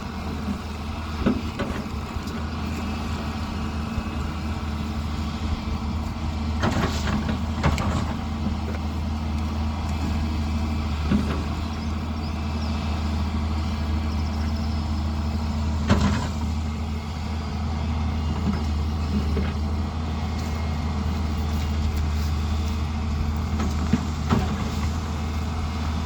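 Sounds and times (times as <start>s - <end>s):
diesel construction machinery running: 0.0s - 26.0s.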